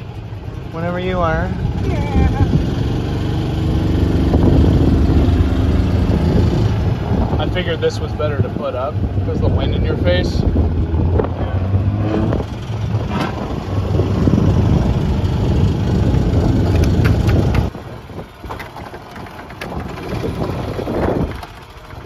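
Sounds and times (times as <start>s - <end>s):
vehicle engine rumbling: 0.0s - 22.0s
wind buffeting microphone: 1.4s - 22.0s.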